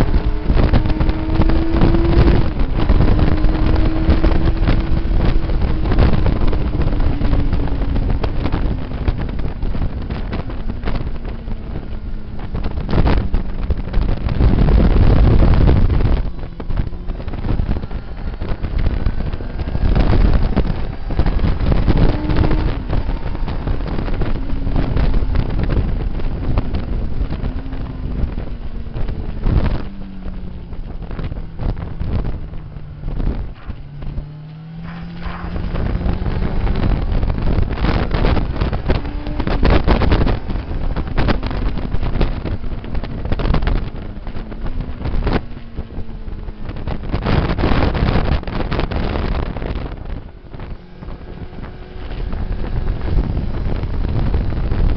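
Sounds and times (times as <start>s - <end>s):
motorcycle engine running: 0.0s - 54.9s
wind buffeting microphone: 0.0s - 54.9s.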